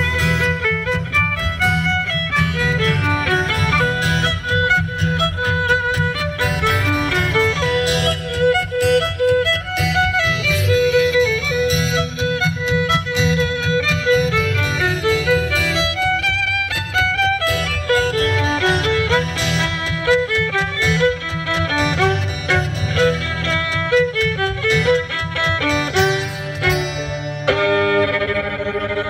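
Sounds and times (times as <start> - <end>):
violin playing quick notes: 0.0 - 29.0.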